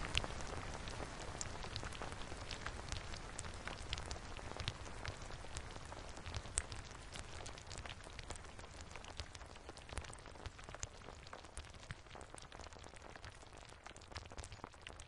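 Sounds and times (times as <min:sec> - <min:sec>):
synthesized rain patter: 0:00.0 - 0:15.0.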